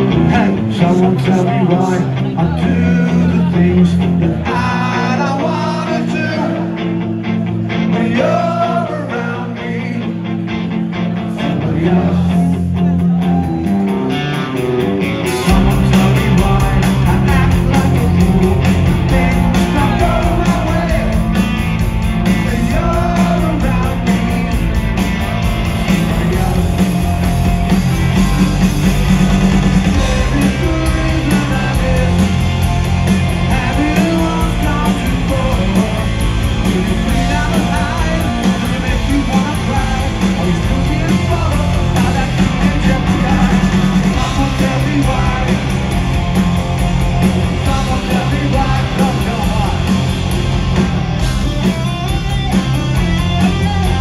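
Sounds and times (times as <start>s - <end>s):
bass: 0.0s - 54.0s
drums: 0.0s - 54.0s
electric guitars: 0.0s - 54.0s.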